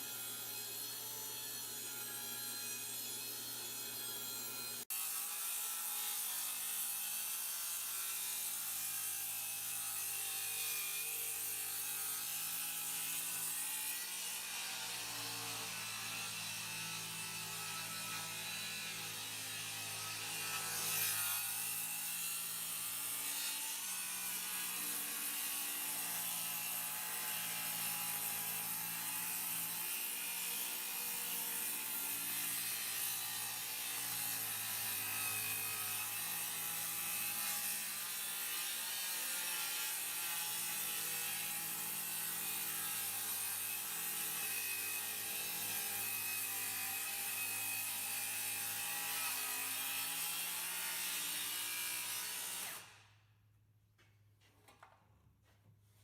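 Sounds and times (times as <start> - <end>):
table saw cutting wood: 0.0 - 53.1.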